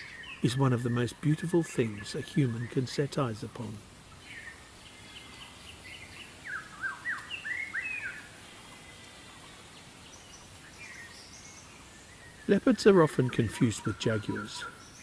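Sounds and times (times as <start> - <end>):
birds chirping: 0.0 - 15.0
natural ambience: 0.0 - 15.0.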